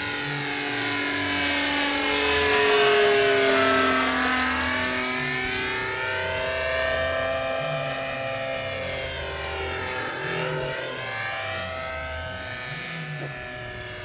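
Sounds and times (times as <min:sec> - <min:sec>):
model plane motor drone: 0:00.0 - 0:14.0.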